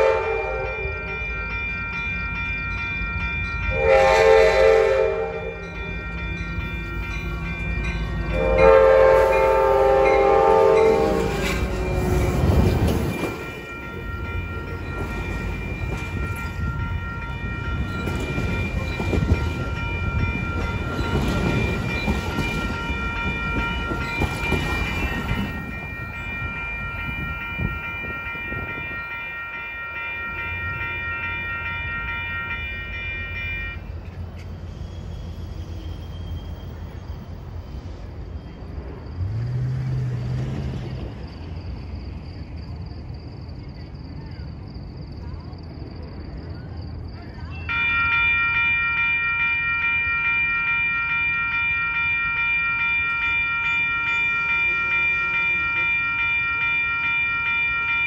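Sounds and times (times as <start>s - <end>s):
crossing bell ringing: 0.0s - 58.0s
train wheels rumbling on rails: 0.0s - 58.0s.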